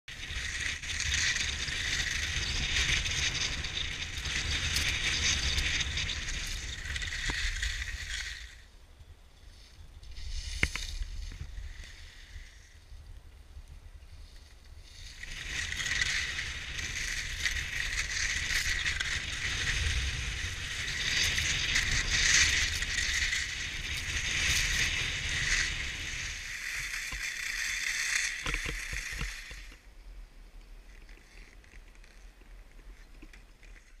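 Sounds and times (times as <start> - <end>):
skis scraping over snow: 0.1 - 34.0
wind rumbling on microphone: 0.1 - 34.0.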